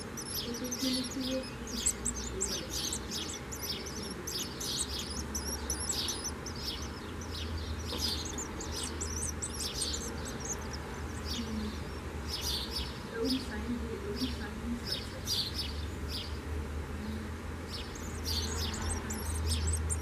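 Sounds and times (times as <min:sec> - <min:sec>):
swift nestling chirping: 0:00.0 - 0:16.5, 0:17.6 - 0:20.0.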